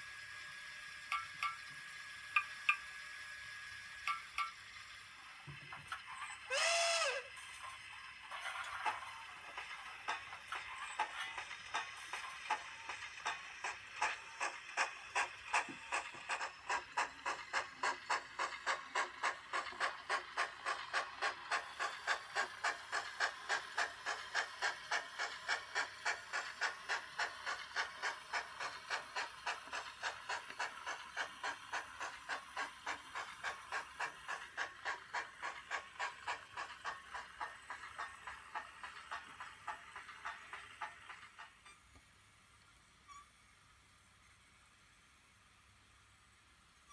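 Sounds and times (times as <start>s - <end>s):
model steam locomotive chuffing: 0.0s - 46.9s.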